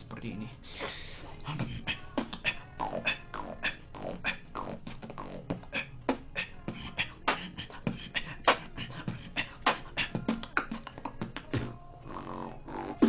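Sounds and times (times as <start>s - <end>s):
human beatbox: 0.7s - 13.0s.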